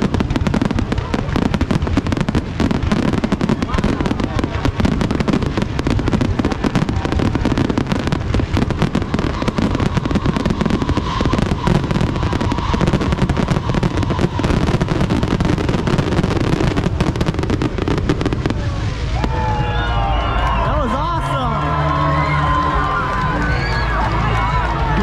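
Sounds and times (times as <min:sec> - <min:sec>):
fireworks banging and crackling: 0:00.0 - 0:25.0.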